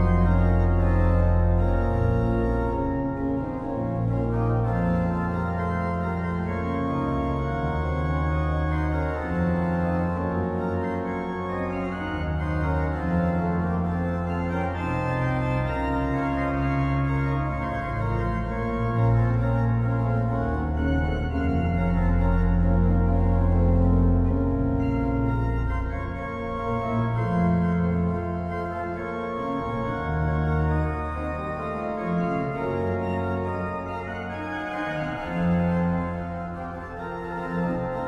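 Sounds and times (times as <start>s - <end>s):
pipe organ music: 0.0s - 38.0s.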